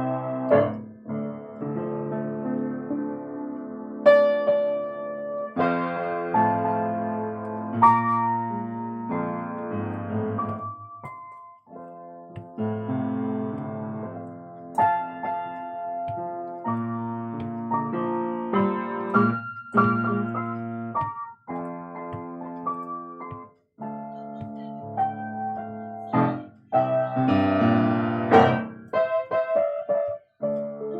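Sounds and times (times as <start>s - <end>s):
keyboard piano chords: 0.0s - 30.9s.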